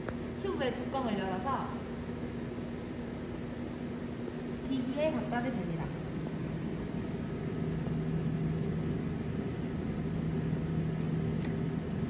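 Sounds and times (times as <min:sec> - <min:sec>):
analyser humming: 0:00.0 - 0:12.0.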